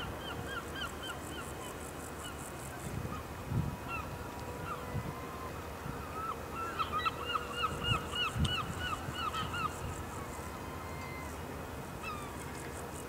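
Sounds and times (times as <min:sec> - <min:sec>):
waterbirds calling: 0:00.0 - 0:13.0.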